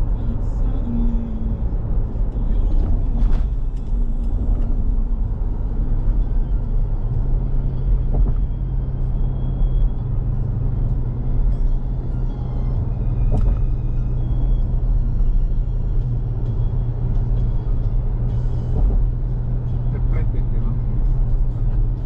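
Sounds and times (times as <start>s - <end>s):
engine and road noise in car cabin: 0.0s - 22.0s.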